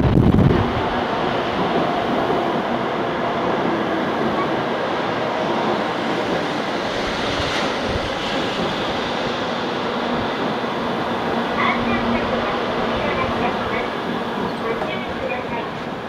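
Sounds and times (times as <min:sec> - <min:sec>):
train pulling in rushing: 0:00.0 - 0:16.0.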